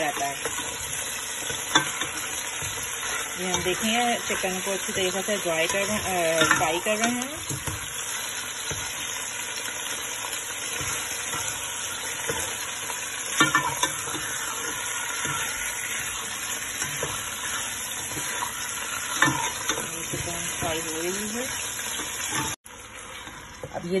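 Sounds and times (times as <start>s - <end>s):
spatula scraping pot: 0.0s - 9.2s, 10.6s - 22.6s
chicken sizzling in hot oil: 0.0s - 24.0s.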